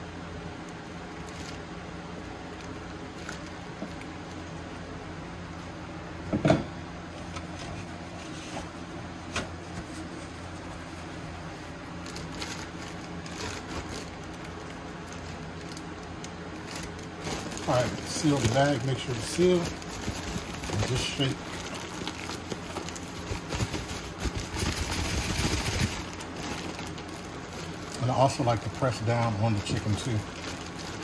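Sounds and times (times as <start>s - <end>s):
steady low hum: 0.0s - 31.0s
plastic bag rustling: 1.0s - 4.6s, 9.8s - 31.0s.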